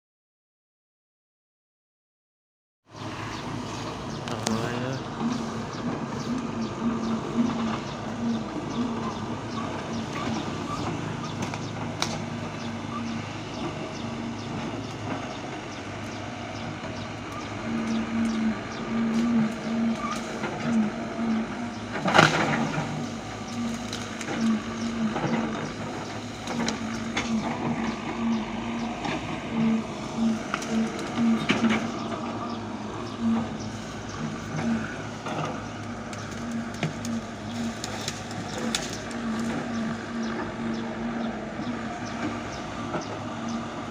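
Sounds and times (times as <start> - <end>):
heavy machine engine running: 2.9 - 43.9.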